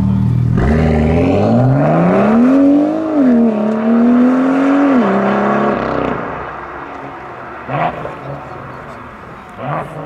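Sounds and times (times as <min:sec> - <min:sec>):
car accelerating hard: 0:00.5 - 0:10.0.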